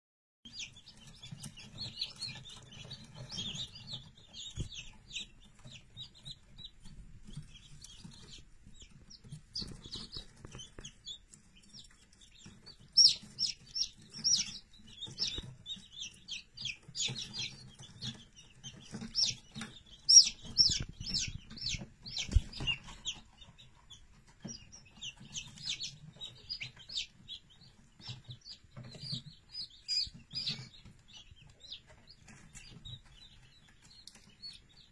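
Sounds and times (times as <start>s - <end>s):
chick peeping: 0.5s - 34.9s.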